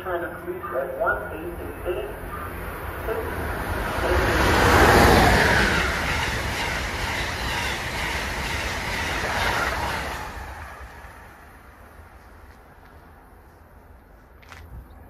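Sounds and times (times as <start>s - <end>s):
train passing at speed: 0.0s - 14.4s.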